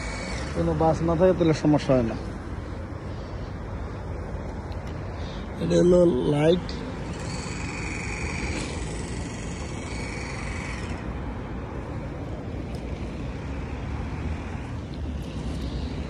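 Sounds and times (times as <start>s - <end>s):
highway traffic passing: 0.0s - 16.0s.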